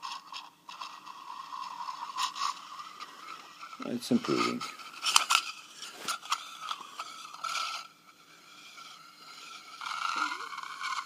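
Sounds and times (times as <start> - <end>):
mirror scraping on metal: 0.0 - 11.0.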